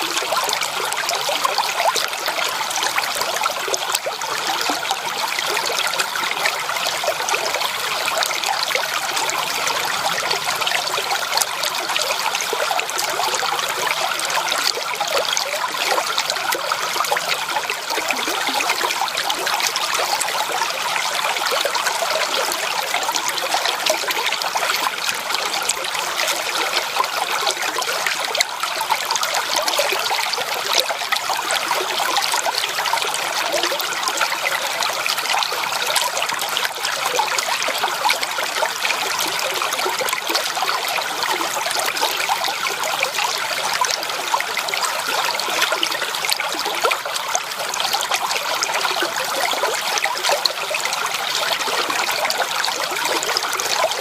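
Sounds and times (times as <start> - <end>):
creek water babbling over stones: 0.0 - 54.0.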